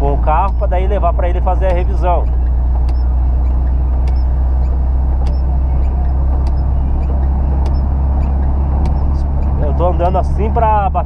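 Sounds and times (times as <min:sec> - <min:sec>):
car engine and road drone: 0:00.0 - 0:11.0
light ticking: 0:00.0 - 0:11.0.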